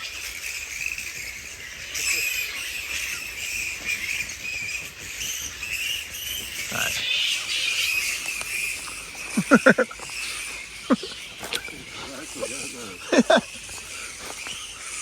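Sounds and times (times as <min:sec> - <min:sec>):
fruit bats chattering: 0:00.0 - 0:15.0.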